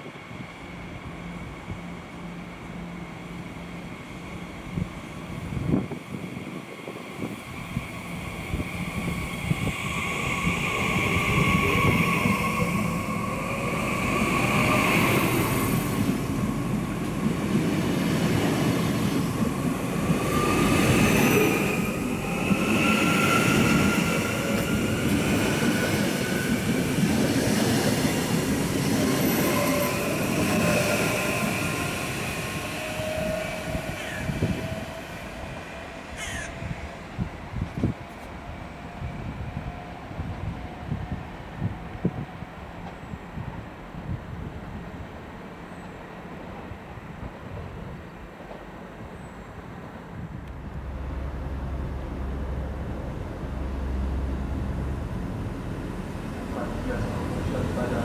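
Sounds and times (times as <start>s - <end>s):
high whining train tones: 0.0s - 58.0s
train wheels rumbling on rails: 0.0s - 58.0s.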